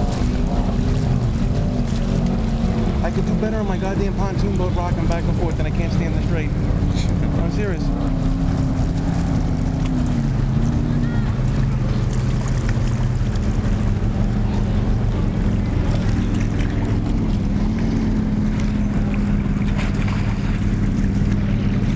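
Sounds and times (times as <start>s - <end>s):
motorboat engine running: 0.0s - 21.9s.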